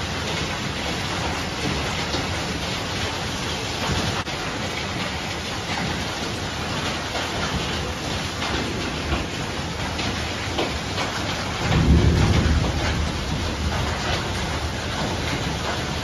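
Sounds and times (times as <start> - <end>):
heavy rain and hail pouring: 0.0 - 16.0.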